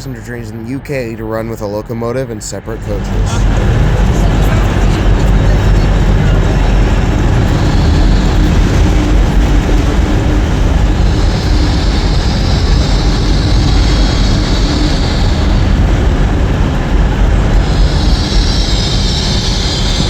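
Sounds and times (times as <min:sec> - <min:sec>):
faint hum: 0:00.0 - 0:20.0
train hiss: 0:00.0 - 0:20.0
train rumbling: 0:00.0 - 0:20.0.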